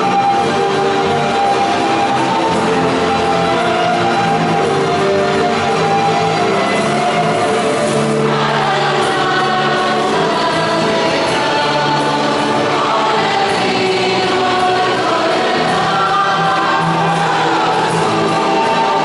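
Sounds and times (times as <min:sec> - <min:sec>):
choir singing: 0:00.0 - 0:19.0
music: 0:00.0 - 0:19.0.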